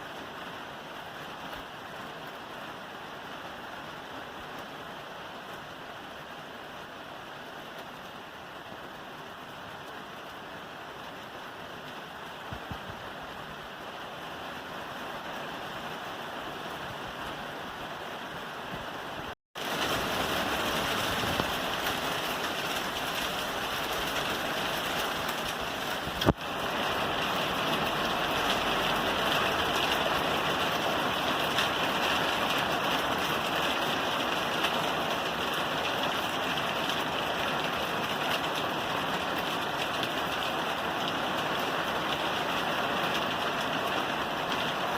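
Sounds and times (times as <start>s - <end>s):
rain falling on a roof: 0.0s - 44.9s.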